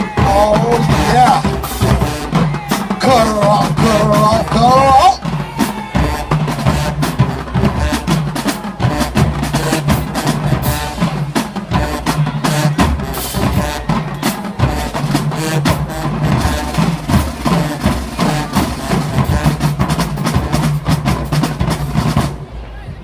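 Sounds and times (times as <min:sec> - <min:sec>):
drumline playing cadence: 0:00.0 - 0:23.0.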